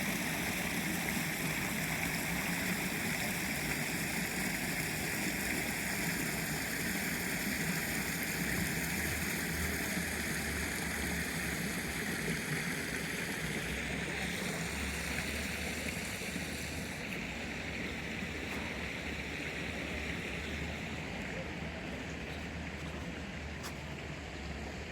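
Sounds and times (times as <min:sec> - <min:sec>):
stream water rushing: 0:00.0 - 0:24.9.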